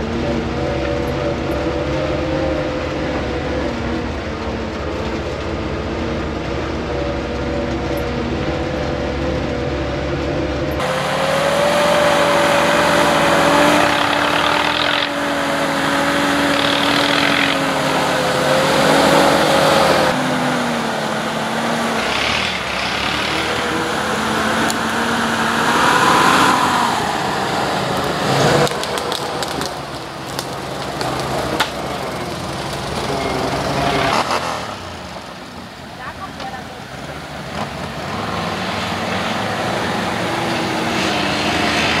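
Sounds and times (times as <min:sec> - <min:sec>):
truck engine under load: 0:00.0 - 0:42.0.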